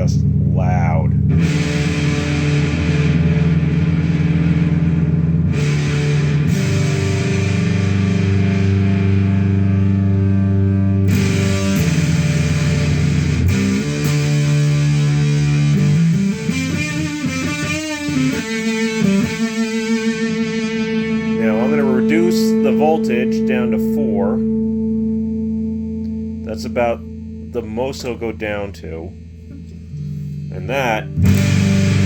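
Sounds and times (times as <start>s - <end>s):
distorted electric guitar: 0.0s - 32.0s.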